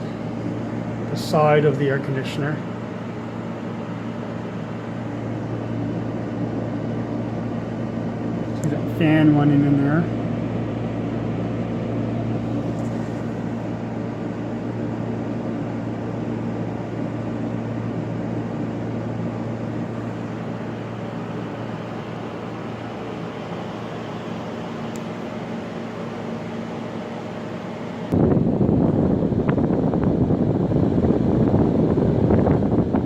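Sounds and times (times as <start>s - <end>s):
air conditioner fan blowing: 0.0s - 33.0s.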